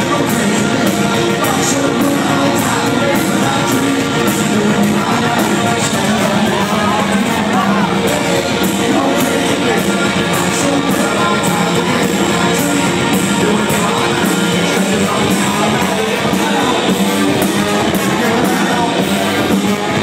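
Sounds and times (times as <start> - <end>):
electric guitar: 0.0 - 20.0
person singing: 0.0 - 20.0
steady drum beat: 0.0 - 20.0.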